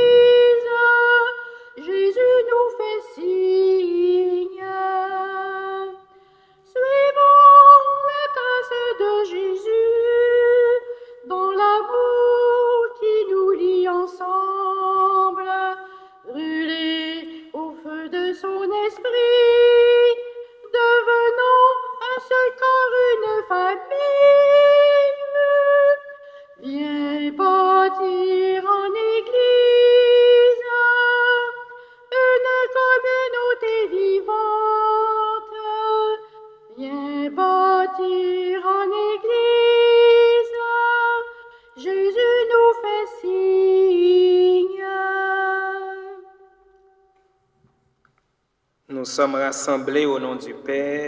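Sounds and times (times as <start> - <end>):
person singing a slow hymn: 0.0 - 47.2.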